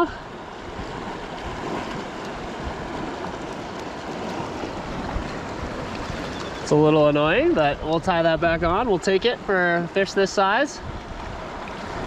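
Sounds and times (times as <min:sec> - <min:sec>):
fast river rushing: 0:00.0 - 0:12.0.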